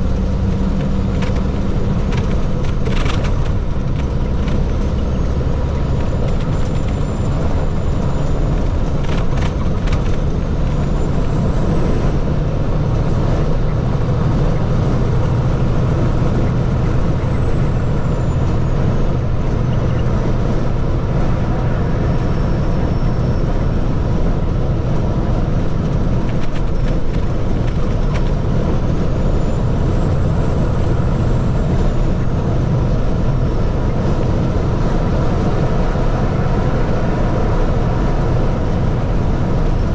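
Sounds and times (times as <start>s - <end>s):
truck engine hum and road noise: 0.0s - 39.9s.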